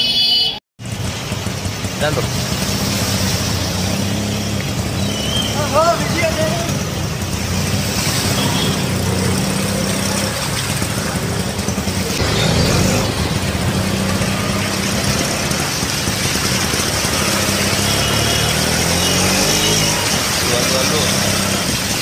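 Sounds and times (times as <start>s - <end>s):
heavy rain: 0.8s - 22.0s
rushing water: 0.8s - 22.0s
vehicle engine running: 0.8s - 22.0s.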